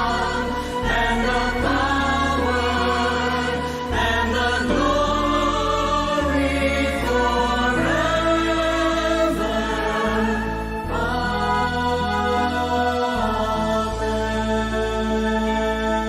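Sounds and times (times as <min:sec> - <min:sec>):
choir singing slow chords: 0:00.0 - 0:16.0.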